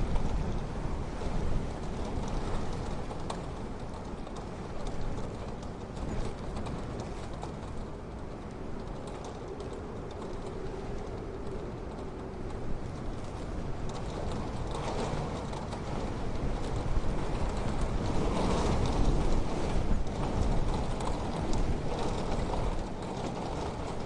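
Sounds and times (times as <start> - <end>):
wind rumbling on microphone: 0.0 - 24.0
faint clicks: 1.6 - 24.0.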